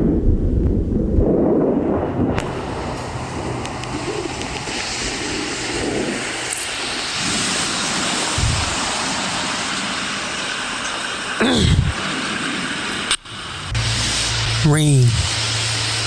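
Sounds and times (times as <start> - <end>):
low rumbling: 0.0 - 16.0
steady rushing noise: 0.0 - 16.0.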